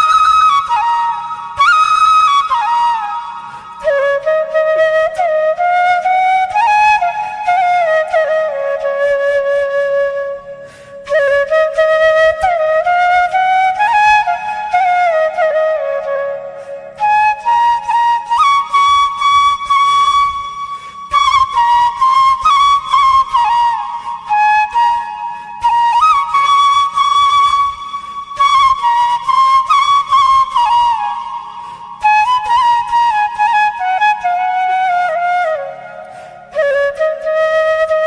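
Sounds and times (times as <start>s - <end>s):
flute playing slow melody: 0.0s - 38.0s.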